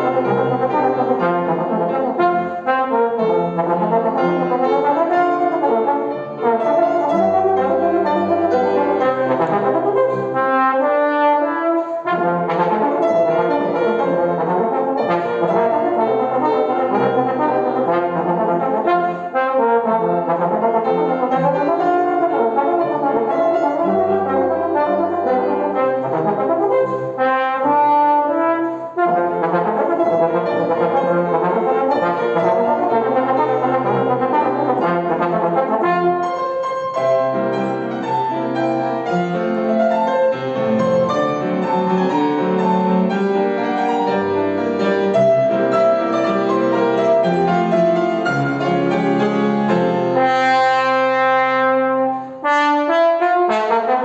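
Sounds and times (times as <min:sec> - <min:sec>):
brass instrument slow melody: 0:00.0 - 0:54.0.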